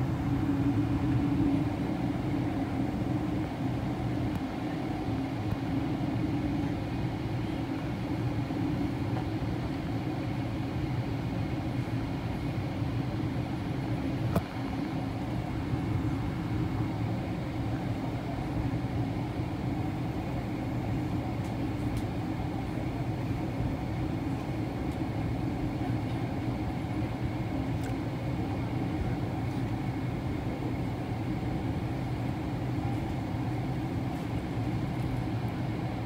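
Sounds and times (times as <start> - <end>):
aircraft cabin drone: 0.0 - 36.0.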